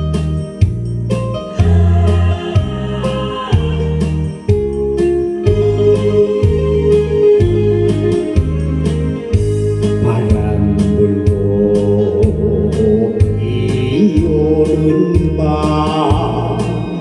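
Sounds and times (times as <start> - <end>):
bass line: 0.0 - 17.0
organ-like keyboard chords: 0.0 - 17.0.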